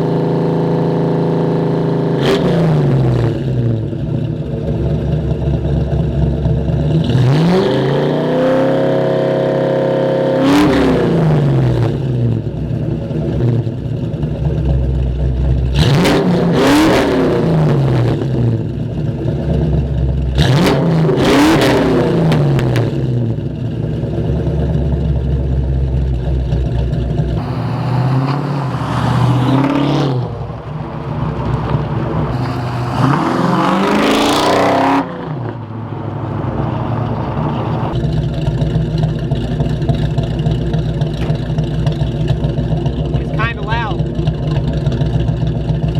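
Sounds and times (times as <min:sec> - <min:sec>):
loud car engine idling and revving: 0:00.0 - 0:45.9.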